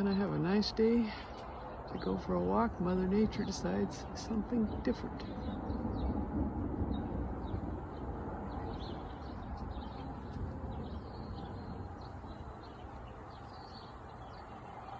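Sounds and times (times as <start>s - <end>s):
small birds chirping: 0.0s - 14.9s
low rumble: 1.8s - 14.7s.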